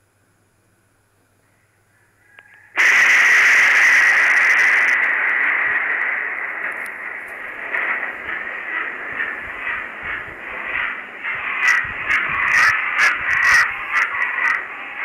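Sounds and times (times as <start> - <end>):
thunderclap crack and rumble: 2.8 - 15.0.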